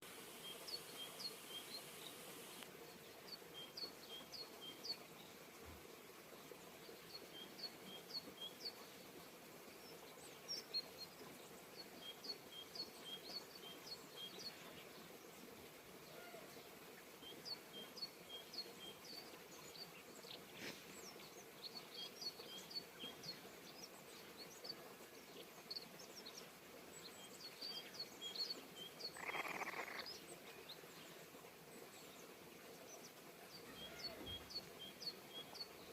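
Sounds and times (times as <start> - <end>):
outdoor background hiss: 0.0 - 35.9
faint bird chirping: 0.1 - 35.9.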